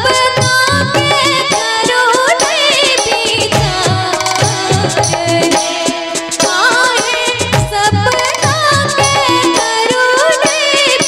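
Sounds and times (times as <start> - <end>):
instrumental accompaniment: 0.0 - 11.0
regular drum beat: 0.0 - 11.0
woman singing into a microphone: 0.0 - 11.0.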